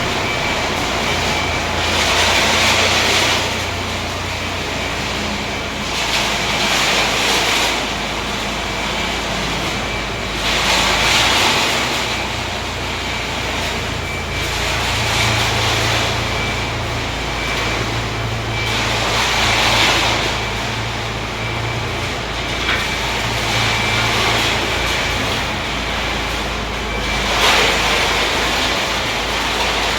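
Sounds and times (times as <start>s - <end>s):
concrete mixer engine hum: 0.0s - 29.9s.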